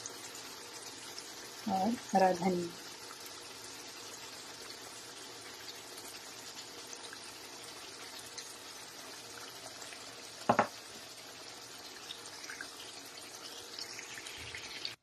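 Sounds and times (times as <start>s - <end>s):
gravy bubbling in a pan: 0.0s - 15.0s.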